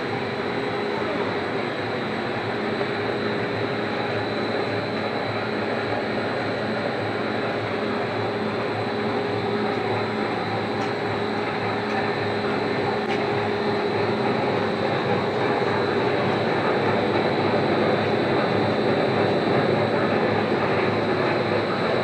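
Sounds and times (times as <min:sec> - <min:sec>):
extrusion machine drone: 0:00.0 - 0:22.0.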